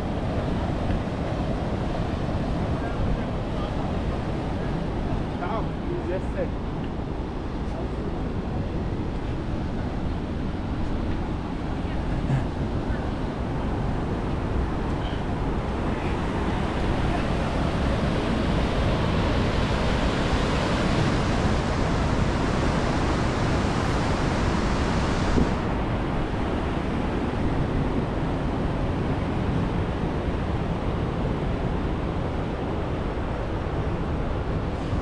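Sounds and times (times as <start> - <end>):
flowing river water: 0.0 - 35.0.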